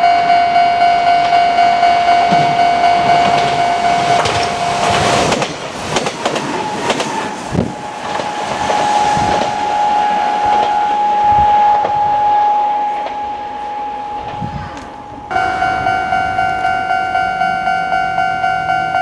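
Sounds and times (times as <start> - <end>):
level crossing alarm ringing: 0.0 - 19.0
train wheels clacking: 0.0 - 19.0.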